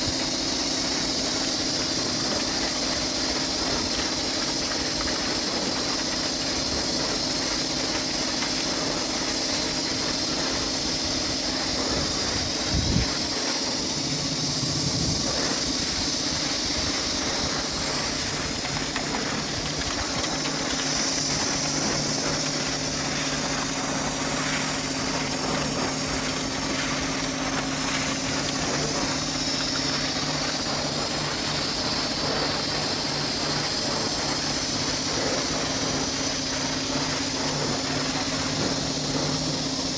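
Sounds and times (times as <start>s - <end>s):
motor hum: 0.0s - 39.9s
pressure washer spraying hiss: 0.0s - 39.9s.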